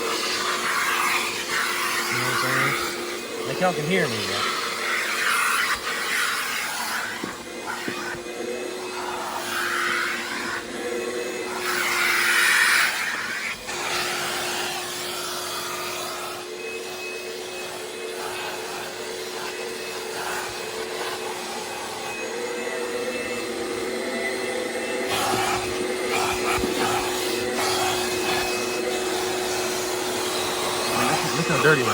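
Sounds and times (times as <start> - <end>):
vacuum nozzle suction hiss: 0.0 - 15.0, 17.6 - 31.9
vacuum cleaner motor whine: 0.0 - 31.9.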